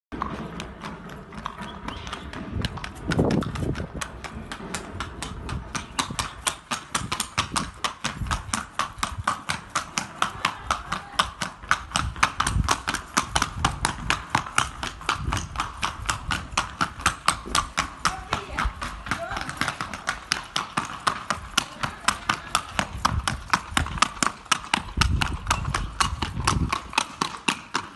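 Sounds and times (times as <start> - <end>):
horse hooves trotting on stone: 0.1 - 27.9.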